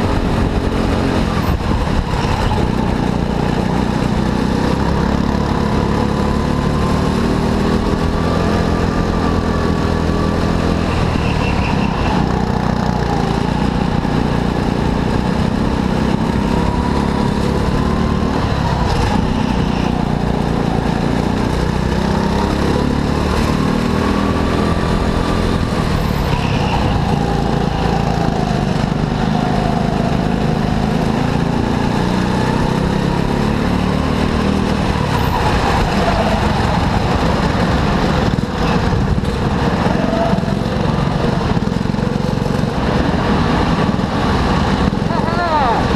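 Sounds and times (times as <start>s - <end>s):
go-kart engine running hard: 0.0s - 45.9s.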